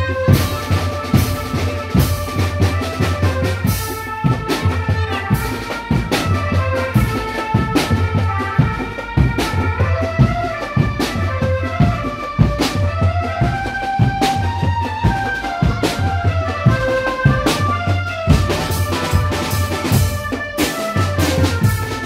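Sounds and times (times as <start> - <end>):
drum band music: 0.0 - 22.0.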